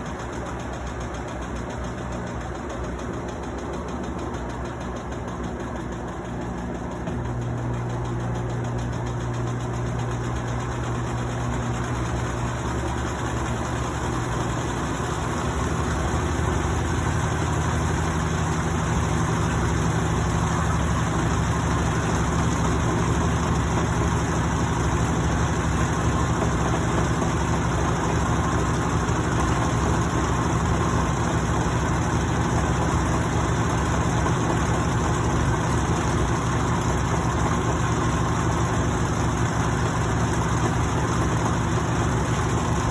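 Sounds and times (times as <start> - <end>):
washing machine motor humming: 0.0 - 42.9.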